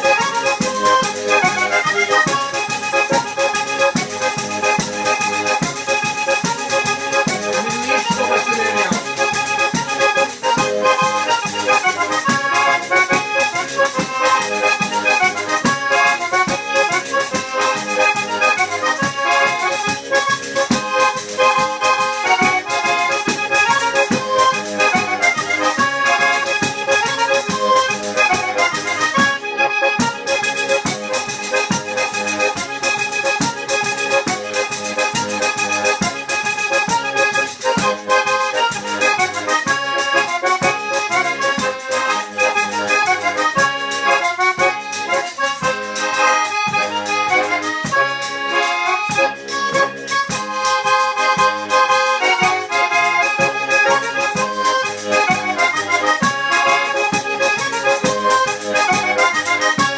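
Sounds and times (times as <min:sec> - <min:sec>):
button accordion folk tune: 0:00.0 - 0:59.9.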